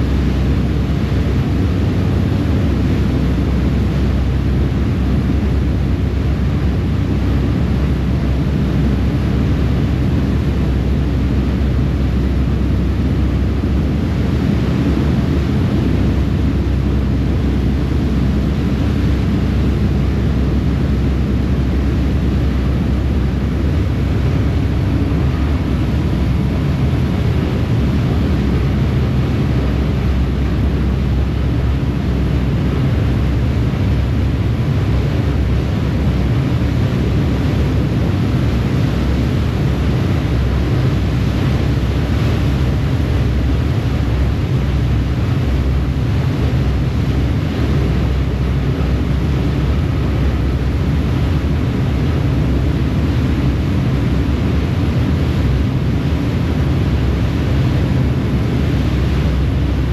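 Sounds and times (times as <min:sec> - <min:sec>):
ferry engines droning: 0:00.0 - 0:59.9
water rushing in wake: 0:00.0 - 0:59.9.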